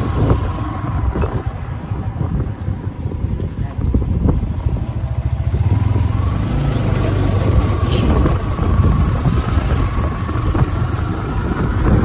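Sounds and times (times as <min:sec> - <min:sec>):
road noise: 0:00.0 - 0:12.0
wind noise: 0:00.0 - 0:12.0.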